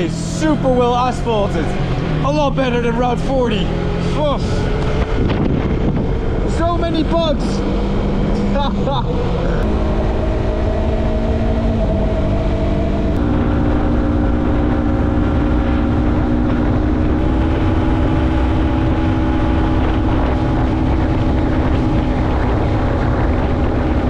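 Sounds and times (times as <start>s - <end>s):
motorcycle engine cruising: 0.0s - 24.0s
wind on microphone: 3.4s - 24.0s.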